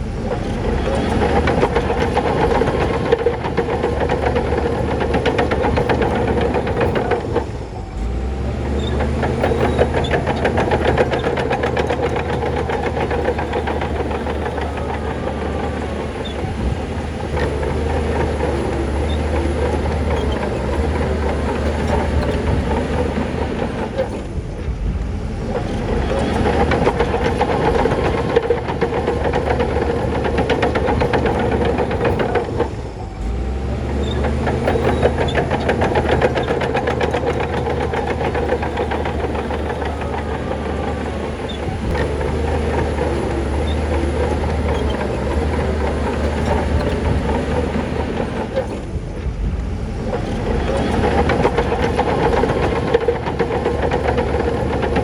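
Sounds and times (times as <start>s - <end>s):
deep engine rumble: 0.0s - 55.0s
diesel machinery running with clatter: 0.0s - 55.0s.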